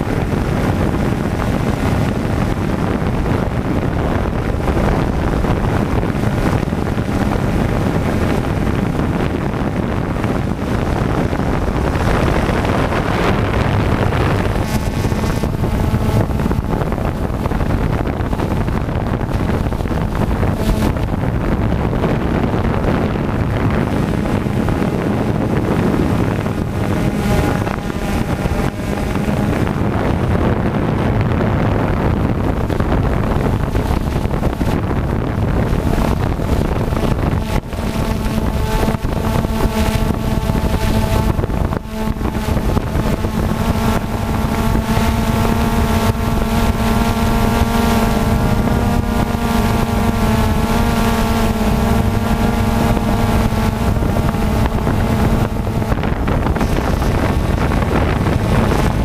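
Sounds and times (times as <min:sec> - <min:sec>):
drone propellers buzzing: 0:00.0 - 0:59.0
wind rushing over microphone: 0:00.0 - 0:59.0.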